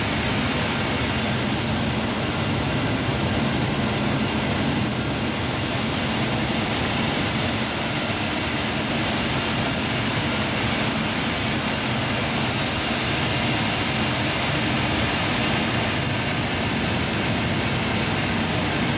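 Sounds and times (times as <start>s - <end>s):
grain pouring hiss: 0.0s - 1.9s, 5.4s - 18.9s
fan and motor whir: 0.0s - 18.9s.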